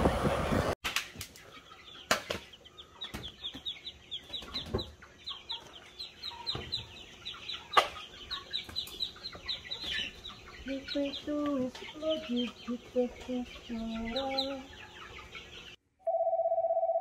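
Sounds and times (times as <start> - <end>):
chicks peeping: 1.1 - 15.8.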